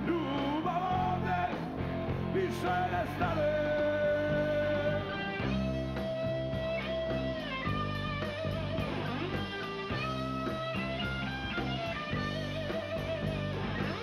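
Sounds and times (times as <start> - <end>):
bass guitar: 0.0 - 14.0
drum kit: 0.0 - 14.0
electric guitar lead line: 0.0 - 14.0.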